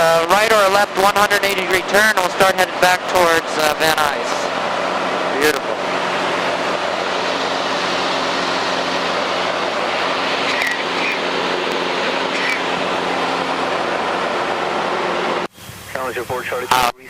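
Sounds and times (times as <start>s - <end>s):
light airplane cabin drone: 0.0s - 17.0s.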